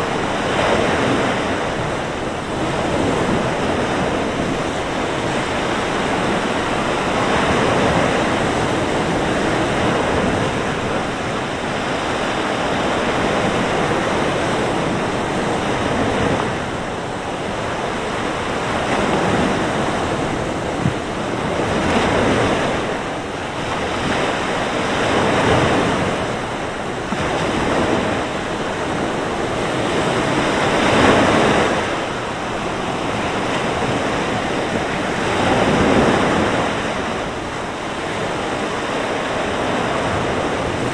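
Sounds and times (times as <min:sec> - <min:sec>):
sea waves breaking on shore: 0:00.0 - 0:40.9
wind blowing: 0:00.0 - 0:40.9.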